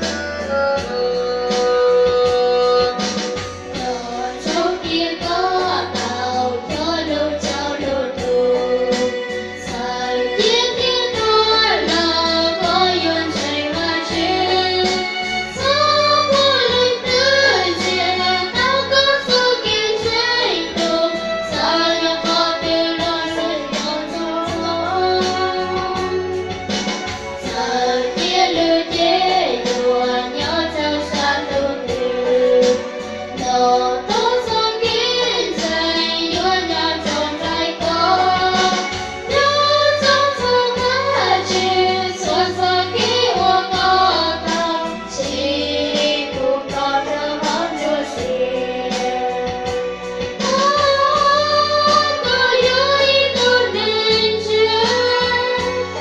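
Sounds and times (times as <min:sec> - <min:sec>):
instrumental accompaniment with bass: 0:00.0 - 0:56.0
women singing into microphones: 0:00.0 - 0:56.0.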